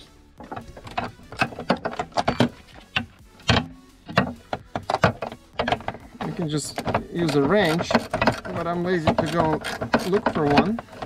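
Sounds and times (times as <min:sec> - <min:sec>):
metal tools knocking: 0:00.4 - 0:11.0
socket ratchet clicking: 0:00.4 - 0:11.0.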